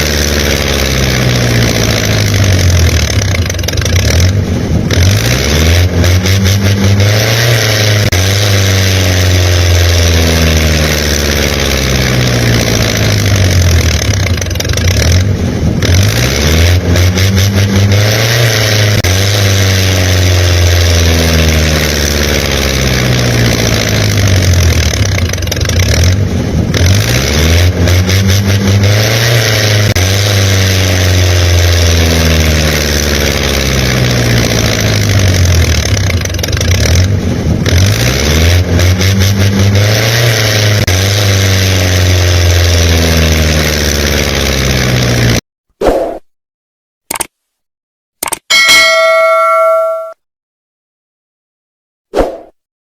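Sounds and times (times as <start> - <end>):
engine revving: 0.0 - 45.4.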